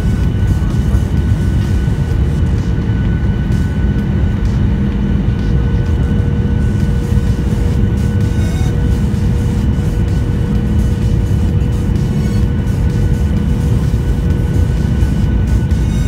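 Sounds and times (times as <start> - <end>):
faint whining tones: 0.0 - 16.0
jet engines roaring in cabin: 0.0 - 16.0.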